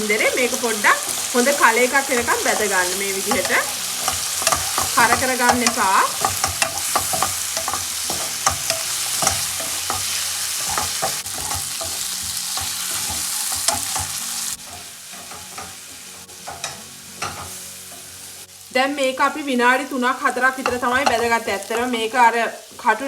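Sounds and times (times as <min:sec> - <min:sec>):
chicken sizzling in oil: 0:00.0 - 0:23.0
utensil clicking and scraping pan: 0:00.1 - 0:18.1, 0:20.6 - 0:21.7.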